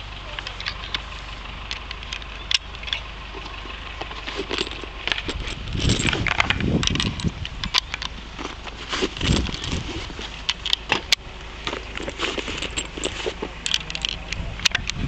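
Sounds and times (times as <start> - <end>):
long grass rustling: 0.0 - 14.3
sharp clicks and knocks: 0.3 - 15.0
kit clinking: 1.6 - 15.0.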